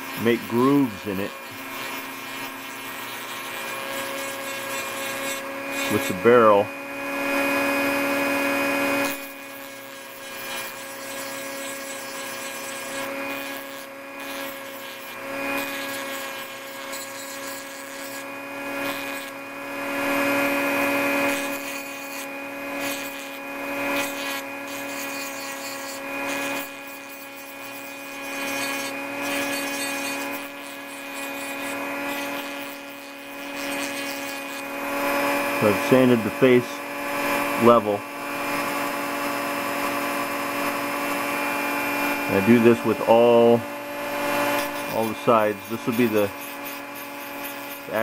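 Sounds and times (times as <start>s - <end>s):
rotary tool whining: 0.0s - 48.0s
sanding drum grinding plastic: 0.0s - 48.0s.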